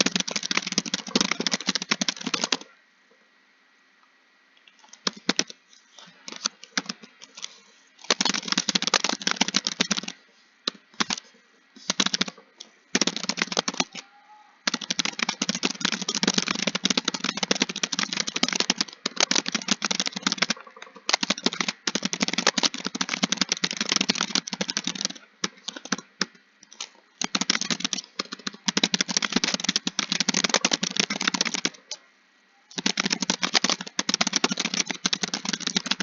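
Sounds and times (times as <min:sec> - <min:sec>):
computer keyboard typing: 0:00.0 - 0:02.7, 0:04.7 - 0:05.6, 0:06.3 - 0:14.0, 0:14.6 - 0:32.0, 0:32.7 - 0:36.0.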